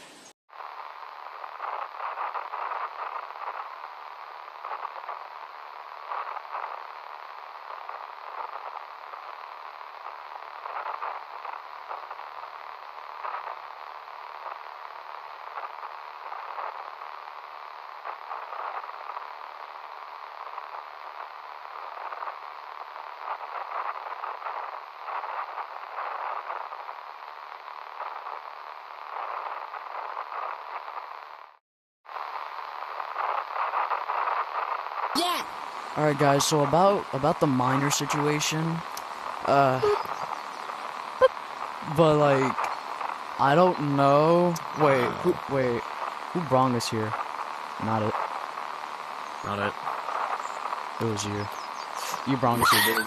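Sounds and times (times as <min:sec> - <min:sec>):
radio static hiss: 0:00.0 - 0:53.0.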